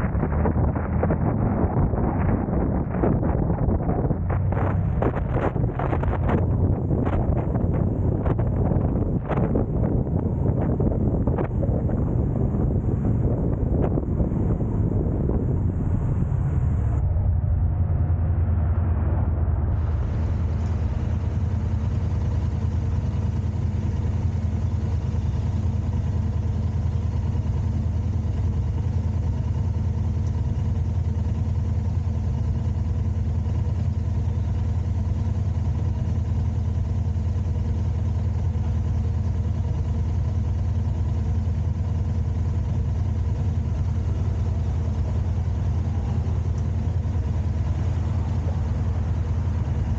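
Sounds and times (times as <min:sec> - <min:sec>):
car engine humming steadily: 0:00.0 - 0:49.9
road and cabin rumble: 0:00.0 - 0:49.9.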